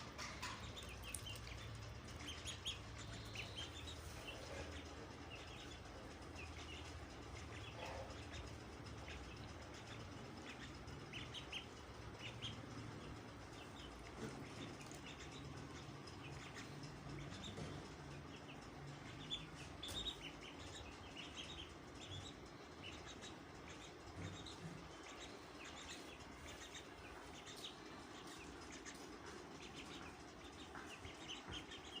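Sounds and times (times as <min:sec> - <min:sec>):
chicks peeping: 0:00.0 - 0:32.0
faint steady hum: 0:00.0 - 0:32.0.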